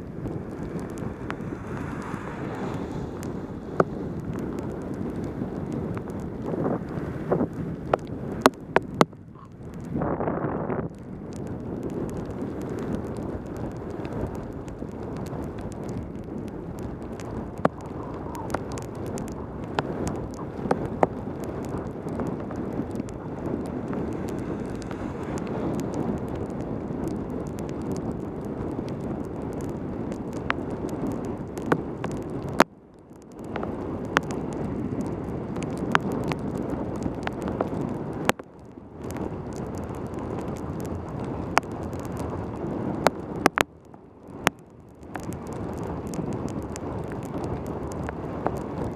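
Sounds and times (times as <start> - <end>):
sharp ticks of rain: 0.0 - 48.9
wind rushing over microphone: 0.0 - 48.9.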